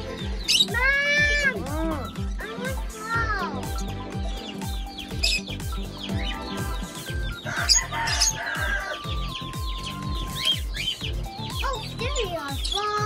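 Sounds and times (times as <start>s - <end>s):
background music with steady beat: 0.0s - 13.0s
pet birds chirping: 0.0s - 13.0s.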